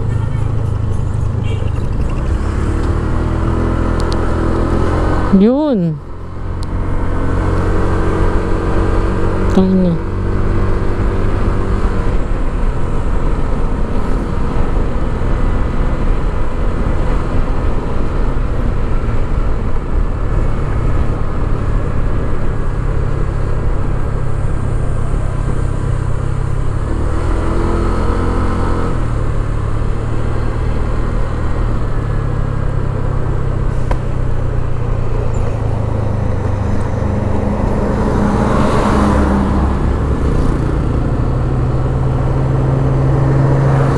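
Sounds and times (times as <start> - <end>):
road noise: 0.0 - 43.9.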